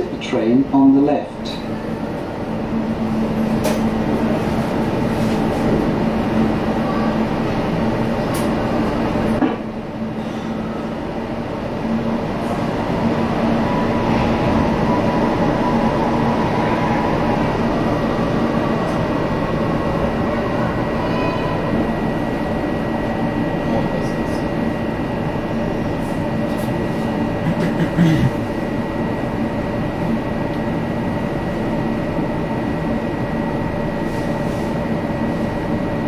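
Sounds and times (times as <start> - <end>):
electric train equipment hum: 0.0 - 36.0.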